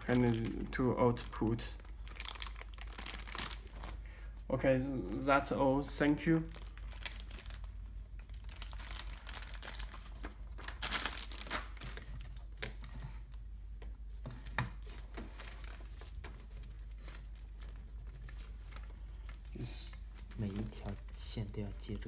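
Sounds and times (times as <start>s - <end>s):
rustling and crinkling of parts: 0.0s - 4.5s, 5.2s - 22.0s.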